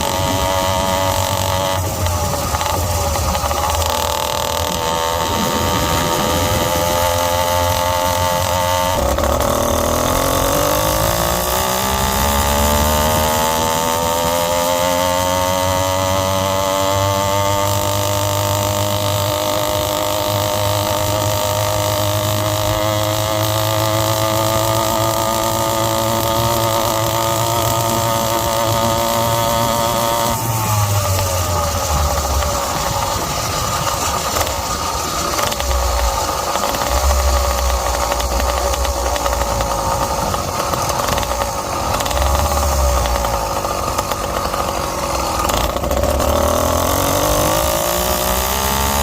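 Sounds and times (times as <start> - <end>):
two-stroke engine running: 0.0 - 49.0.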